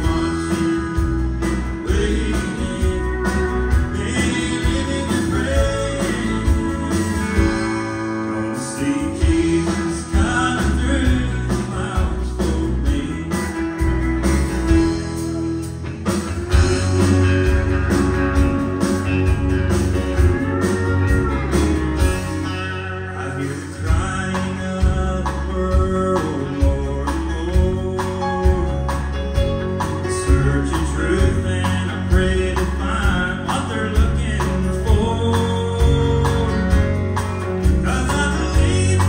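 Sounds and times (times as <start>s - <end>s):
man singing lead: 0.0s - 15.0s, 22.2s - 39.0s
acoustic and electric guitars: 0.0s - 39.0s
drums: 0.0s - 39.0s.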